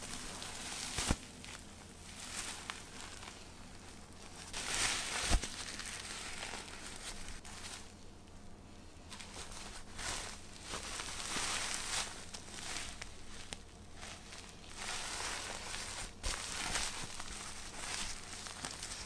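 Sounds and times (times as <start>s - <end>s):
diapers crinkling and rustling: 0.0s - 8.4s, 9.0s - 19.0s.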